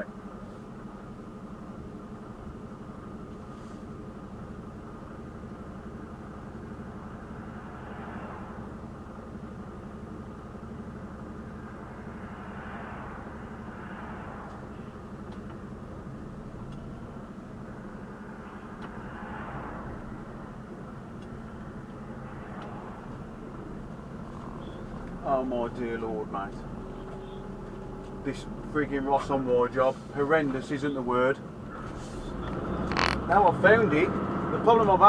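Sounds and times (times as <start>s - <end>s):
lorry diesel engine running: 0.0s - 35.0s.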